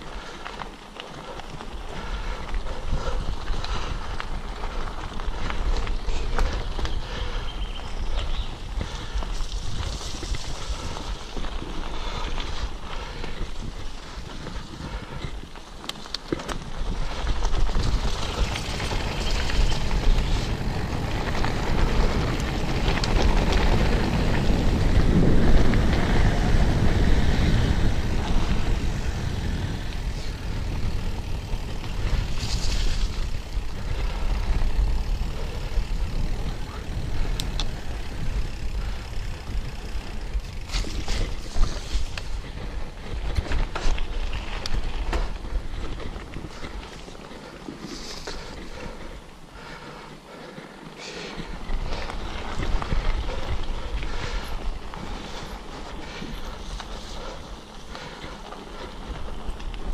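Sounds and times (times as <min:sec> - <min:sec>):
bike tyres rolling on dirt: 0:00.0 - 0:59.9
wind buffeting microphone: 0:01.6 - 0:59.9.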